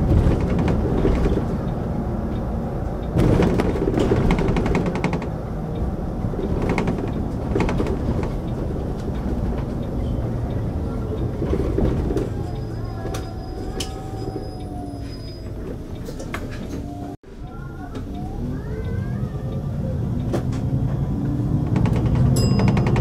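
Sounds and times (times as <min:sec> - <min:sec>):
bus engine and tyre rumble: 0:00.0 - 0:23.0
bus rattles and clicks: 0:00.0 - 0:23.0.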